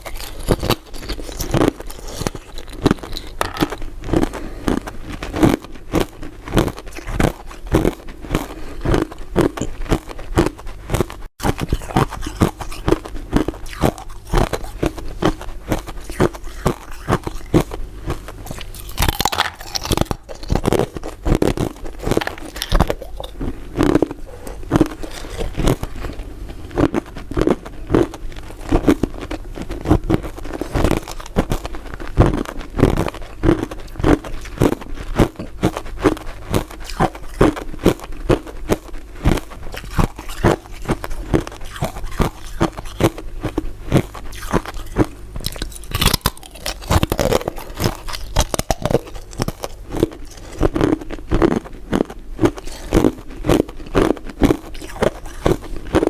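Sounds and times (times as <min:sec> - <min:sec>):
person crunching ice: 0:00.0 - 0:26.2, 0:29.8 - 0:38.5, 0:39.2 - 0:56.0.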